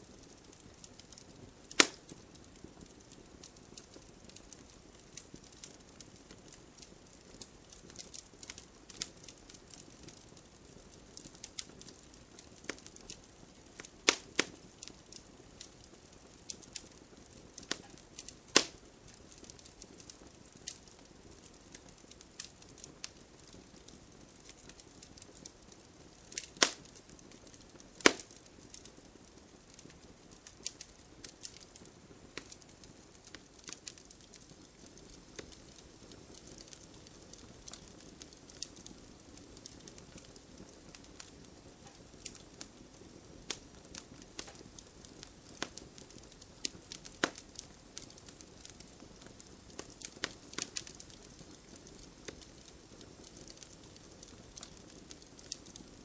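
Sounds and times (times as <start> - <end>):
bonfire crackling and popping: 0.0 - 56.0
gentle rain hiss: 0.0 - 56.0.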